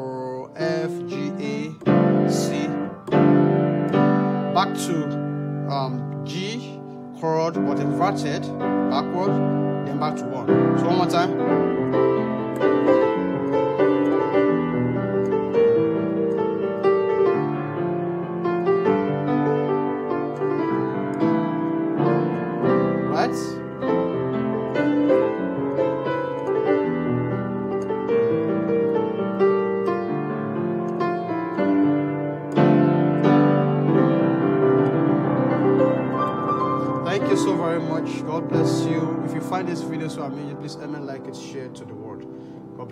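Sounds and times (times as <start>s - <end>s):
piano playing chords: 0.0s - 42.9s.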